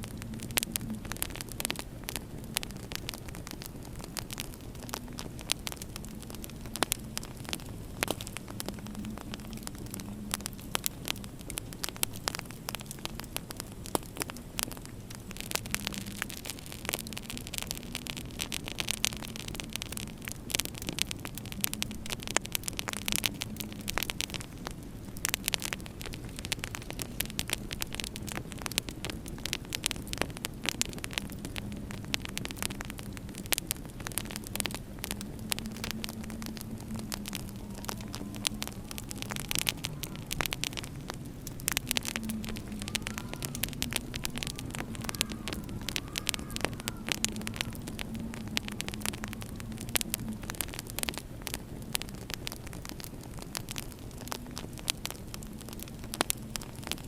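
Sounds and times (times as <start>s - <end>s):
low hum and hiss: 0.0s - 57.0s
wood fire crackling: 0.0s - 57.0s.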